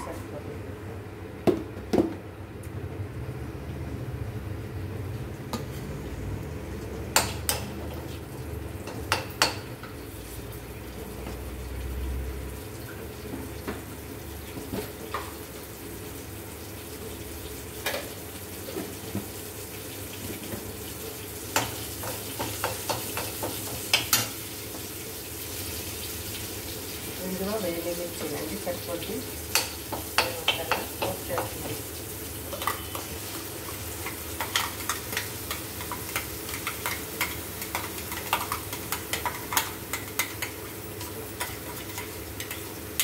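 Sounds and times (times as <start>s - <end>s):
chillies sizzling in oil: 6.7s - 43.0s.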